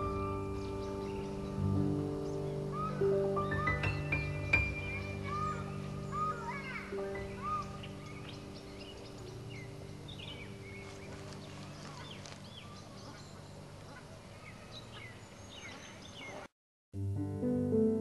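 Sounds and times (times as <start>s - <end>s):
birds chirping and whistling: 0.1s - 13.8s, 14.4s - 16.5s.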